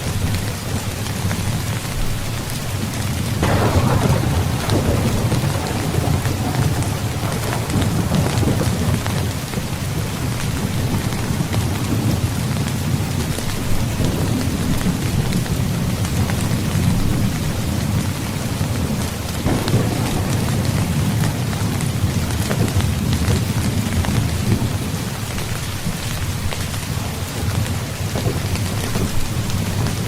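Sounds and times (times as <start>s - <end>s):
heavy rain: 0.0s - 30.0s
rolling thunder rumble: 0.1s - 30.0s.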